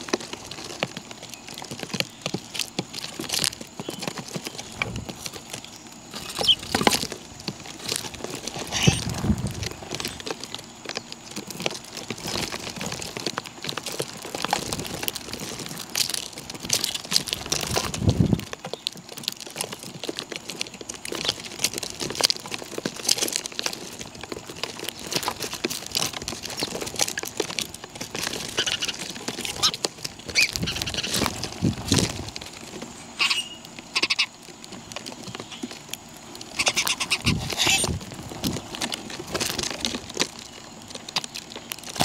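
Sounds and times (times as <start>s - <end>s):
birds pecking at feed: 0.0s - 42.0s.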